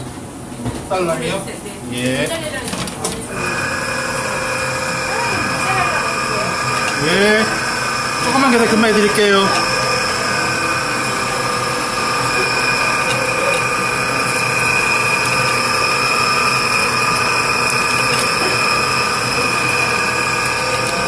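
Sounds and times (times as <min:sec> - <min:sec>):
constant high whine: 0:03.2 - 0:21.0.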